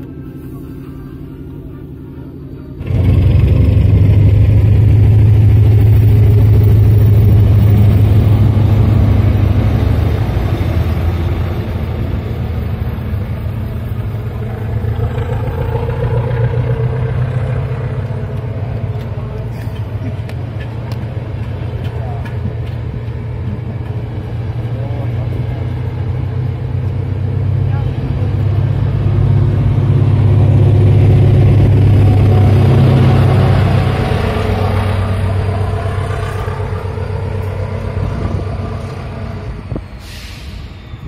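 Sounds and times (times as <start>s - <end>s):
diesel locomotive engine running: 0.0s - 41.0s.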